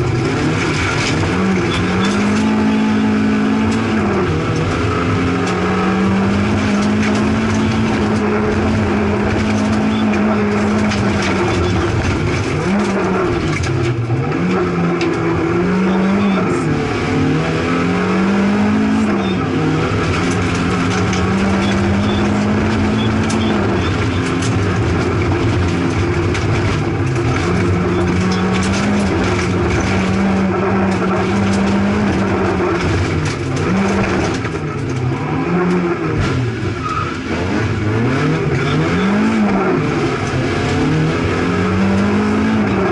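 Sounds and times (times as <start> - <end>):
rally car engine at high revs: 0.0 - 42.9
tyres on gravel road: 0.0 - 42.9.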